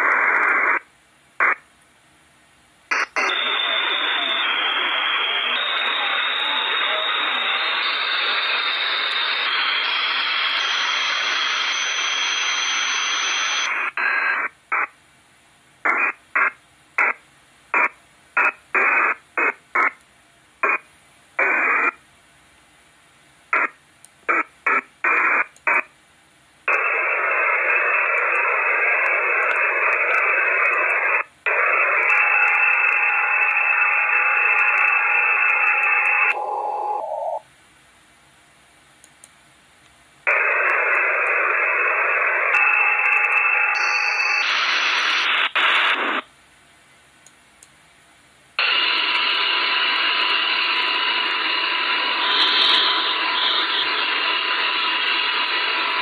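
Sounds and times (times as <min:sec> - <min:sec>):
radio static: 0:00.0 - 0:01.7, 0:02.9 - 0:15.0, 0:15.8 - 0:20.0, 0:20.6 - 0:22.0, 0:23.5 - 0:25.9, 0:26.7 - 0:37.5, 0:40.2 - 0:46.3, 0:48.6 - 0:56.0.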